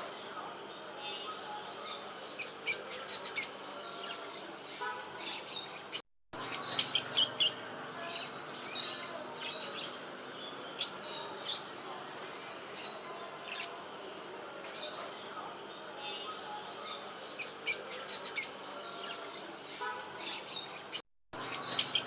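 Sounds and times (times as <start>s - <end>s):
small cage birds chirping: 0.0s - 22.0s.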